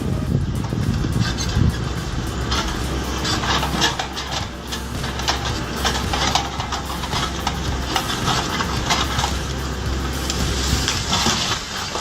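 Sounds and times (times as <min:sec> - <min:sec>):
heavy machine engine droning: 0:00.0 - 0:12.0
knocks and clatters: 0:00.5 - 0:12.0.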